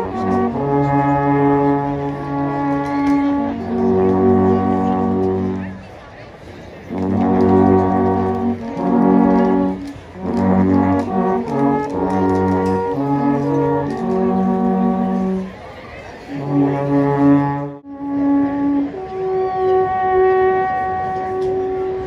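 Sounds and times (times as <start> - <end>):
alphorns playing held chords: 0.0 - 6.0, 6.9 - 15.7, 16.3 - 22.0.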